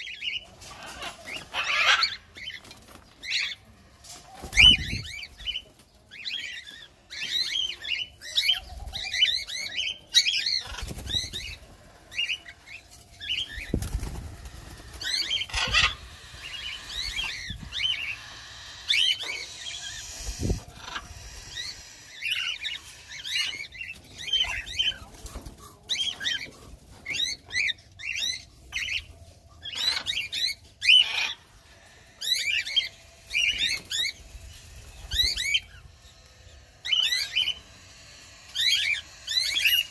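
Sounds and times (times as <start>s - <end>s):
cockatiels chirping: 0.0s - 3.6s, 4.4s - 39.9s.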